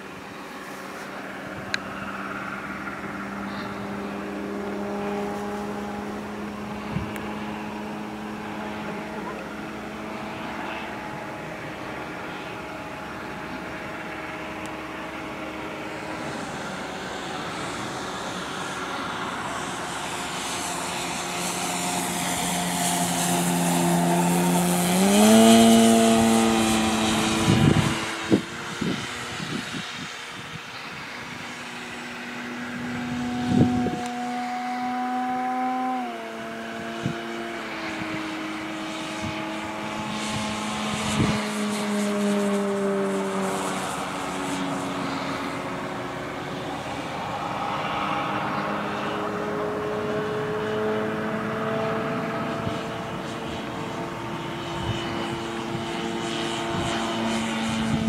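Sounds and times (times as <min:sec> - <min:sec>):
model plane propeller droning whine: 0:00.0 - 0:58.0.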